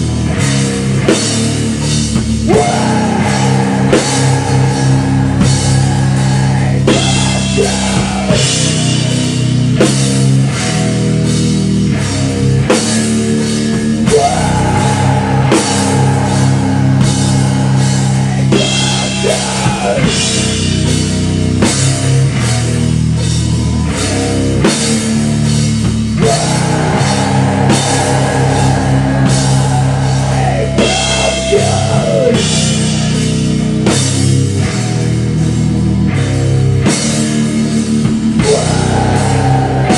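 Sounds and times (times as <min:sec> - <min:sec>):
electric guitar with bent notes: 0:00.0 - 0:39.9
pounding drum kit: 0:00.0 - 0:39.9.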